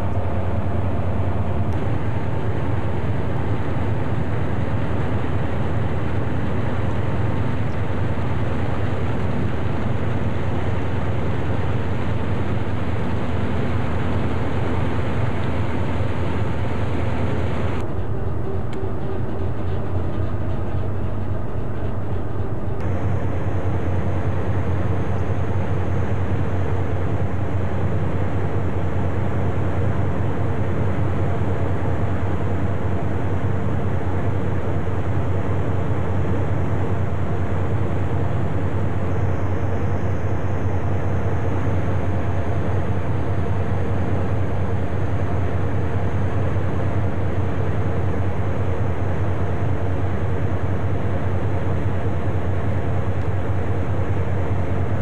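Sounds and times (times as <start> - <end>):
boat diesel engine droning: 0.0 - 55.0.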